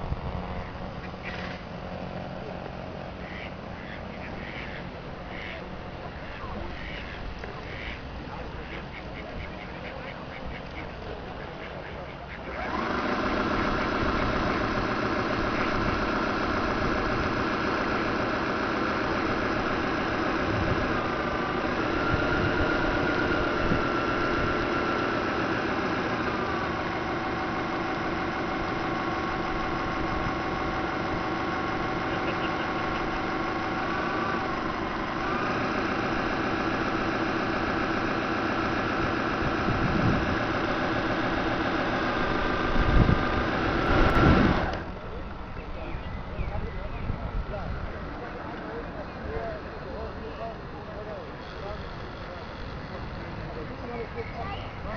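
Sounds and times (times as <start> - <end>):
model boat motor humming and whining: 0.0 - 54.9.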